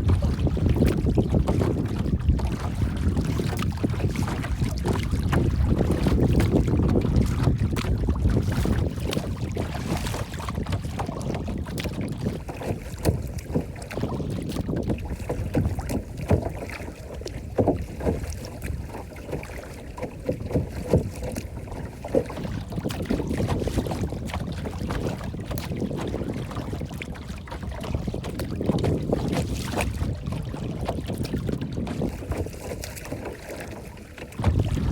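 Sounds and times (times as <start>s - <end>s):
water lapping and splashing: 0.0s - 34.9s
wind rumble on microphone: 0.0s - 34.9s.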